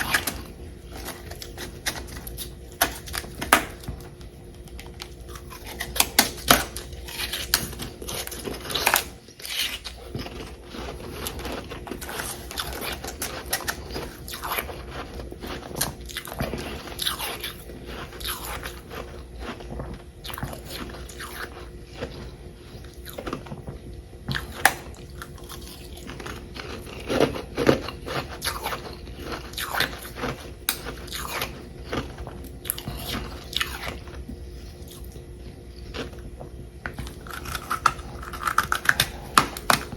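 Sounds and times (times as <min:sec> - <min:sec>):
crunchy chewing of frost: 0:00.0 - 0:39.9.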